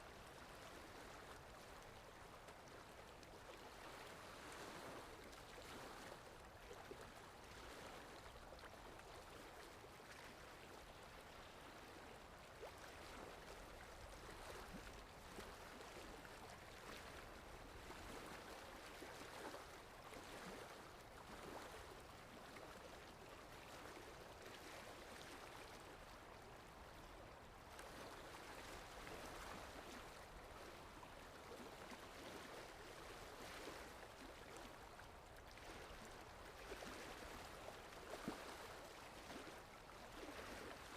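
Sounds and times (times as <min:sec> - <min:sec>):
sea water washing gently: 0:00.0 - 0:40.9.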